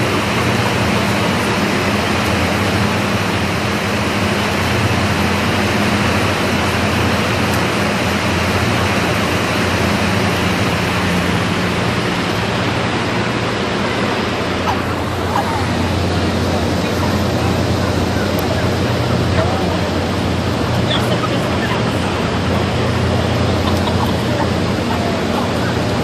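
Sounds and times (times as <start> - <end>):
constant low hum: 0.0 - 26.0
loud machinery noise: 0.0 - 26.0.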